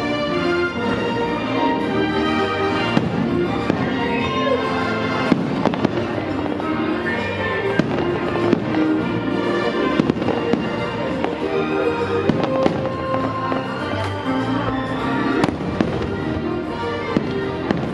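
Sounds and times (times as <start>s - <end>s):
fireworks bursting: 0.0s - 17.9s
music soundtrack: 0.0s - 17.9s.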